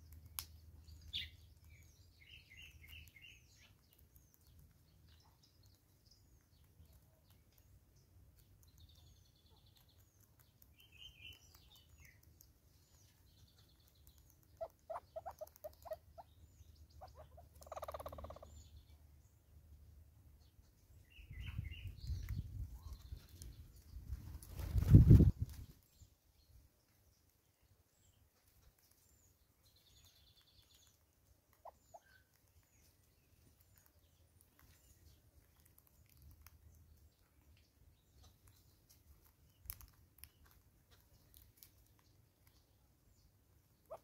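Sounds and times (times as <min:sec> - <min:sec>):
birds chirping and trilling: 0:00.0 - 0:27.3, 0:27.9 - 0:41.4.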